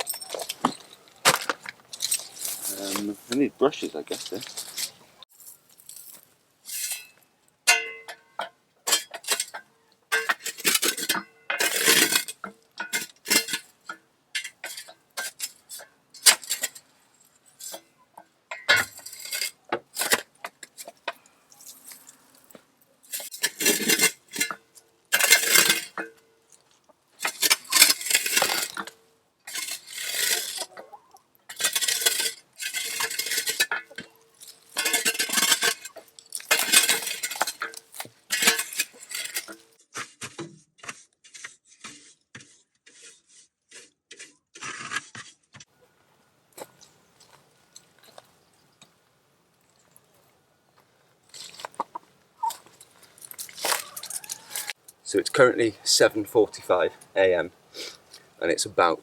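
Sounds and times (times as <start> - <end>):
tools scraping and clinking: 0.0 - 45.7, 51.2 - 57.1.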